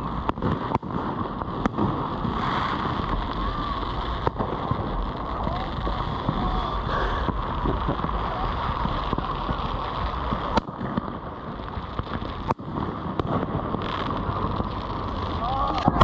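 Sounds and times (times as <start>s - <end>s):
fireworks bangs: 0.0s - 16.0s
fireworks rushing noise: 0.0s - 16.0s.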